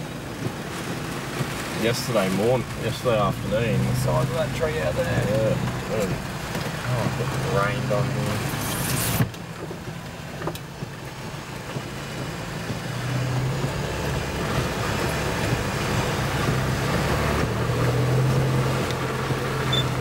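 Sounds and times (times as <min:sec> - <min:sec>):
car engine drone: 0:00.0 - 0:20.0
tyre hiss on wet road: 0:00.0 - 0:20.0.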